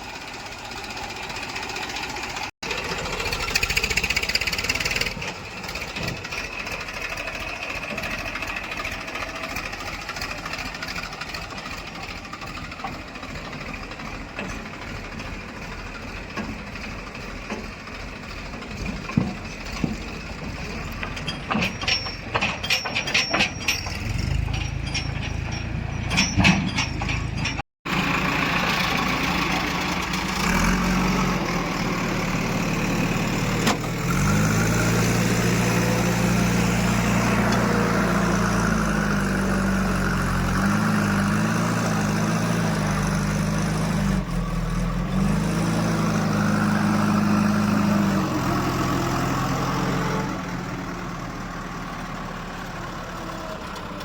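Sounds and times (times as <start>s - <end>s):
diesel engine revving: 0.0s - 21.6s, 25.8s - 54.0s.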